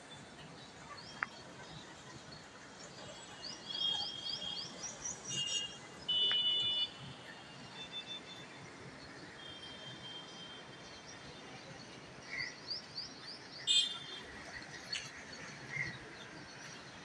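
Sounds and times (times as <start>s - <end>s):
faint city background noise: 0.0s - 17.0s.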